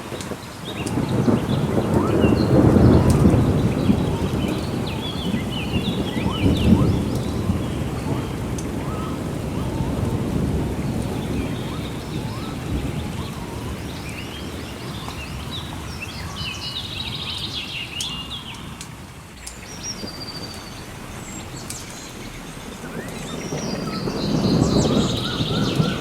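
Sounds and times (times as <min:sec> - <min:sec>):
birds chirping: 0:00.0 - 0:26.0
rain hissing: 0:00.0 - 0:26.0
rolling thunder: 0:00.0 - 0:26.0.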